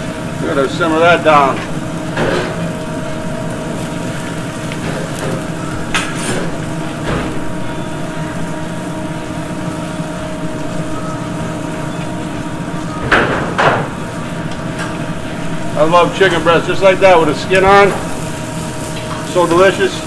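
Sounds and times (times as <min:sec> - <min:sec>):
chicken sizzling in a pan: 0:00.0 - 0:20.0
steady hum: 0:00.0 - 0:20.0.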